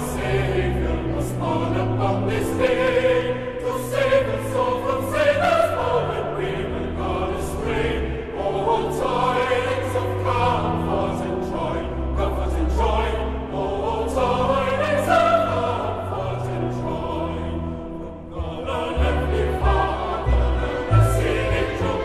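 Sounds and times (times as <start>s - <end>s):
choir singing a carol: 0.0s - 22.0s.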